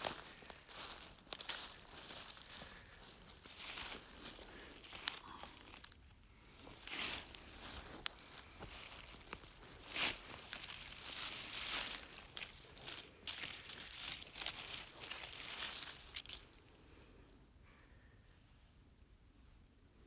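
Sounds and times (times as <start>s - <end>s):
rustling and crinkling: 0.0s - 16.6s.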